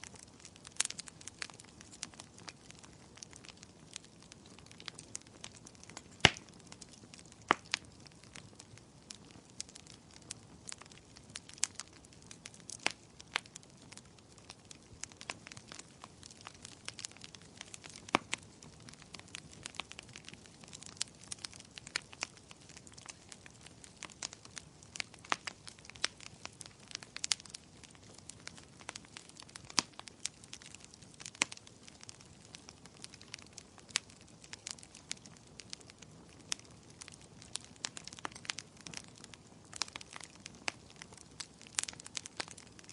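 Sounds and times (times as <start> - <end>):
firewood crackling and popping: 0.0 - 42.9.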